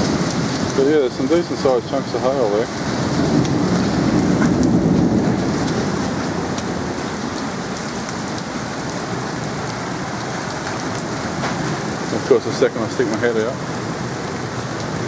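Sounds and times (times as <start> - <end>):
hailstones striking: 0.0 - 15.0
heavy rain hissing: 0.0 - 15.0.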